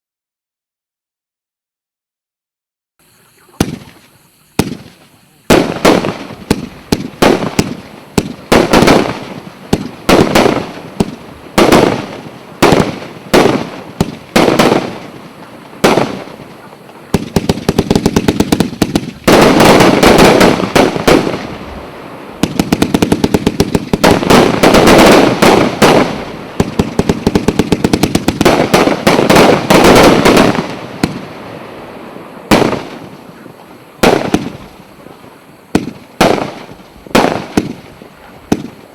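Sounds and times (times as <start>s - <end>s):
fireworks shots firing: 3.4s - 38.9s.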